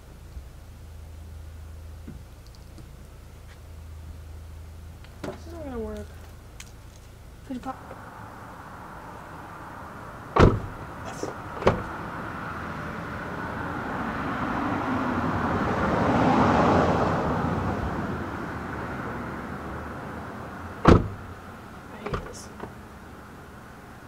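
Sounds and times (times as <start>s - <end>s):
car passing: 1.1s - 24.0s.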